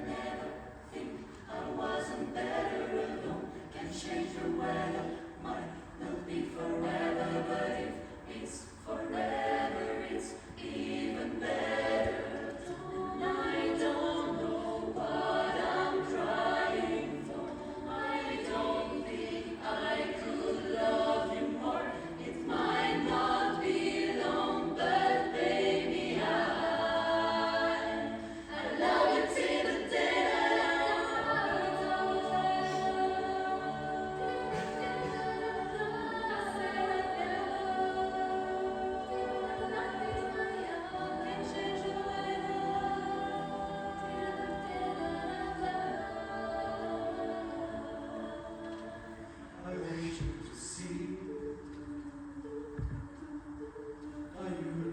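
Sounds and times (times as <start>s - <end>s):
rhythmic vocal accompaniment: 0.0s - 54.9s
vocal ensemble singing a cappella: 0.0s - 54.9s.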